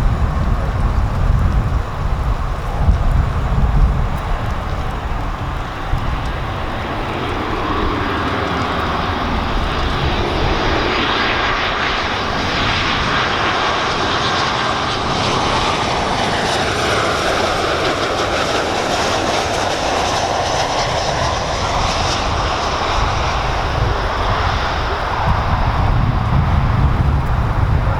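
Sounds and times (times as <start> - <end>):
jet airliner engine noise: 0.0 - 27.9.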